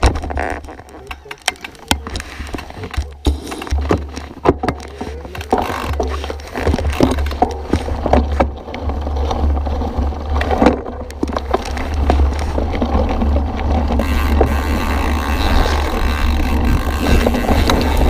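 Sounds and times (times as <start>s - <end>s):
bike rattling over bumps: 0.0s - 18.0s
wind and tyre rumble: 0.0s - 18.0s.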